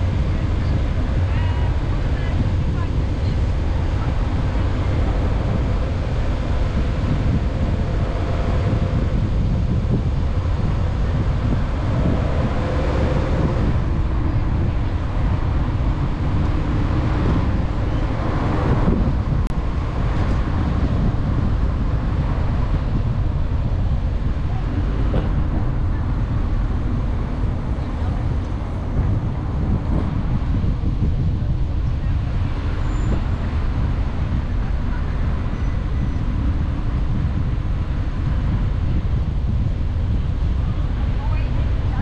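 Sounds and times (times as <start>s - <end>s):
car road noise: 0.0s - 42.0s
wind buffeting microphone: 0.0s - 42.0s.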